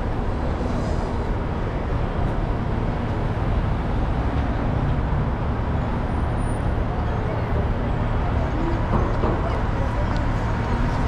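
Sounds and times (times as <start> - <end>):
cars and buses passing: 0.0 - 11.0.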